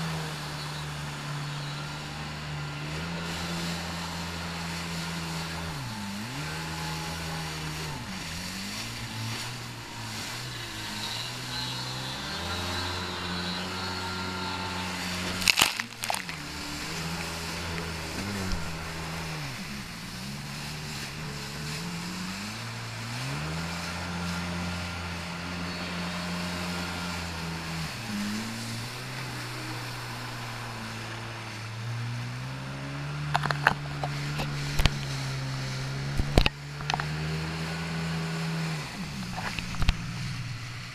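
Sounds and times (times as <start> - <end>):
jet ski engine revving: 0.0 - 40.9
water rushing against hull: 0.0 - 40.9.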